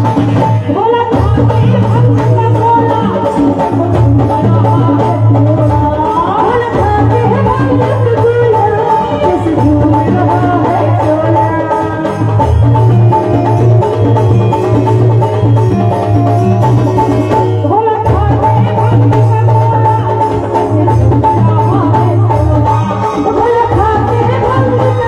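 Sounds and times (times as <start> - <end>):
keyboard melody: 0.0 - 25.0
steady drum beat: 0.0 - 25.0.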